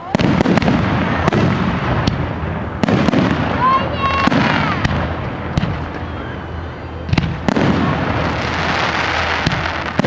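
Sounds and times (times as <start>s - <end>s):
continuous rumble: 0.0s - 10.0s
fireworks bangs: 0.0s - 10.0s.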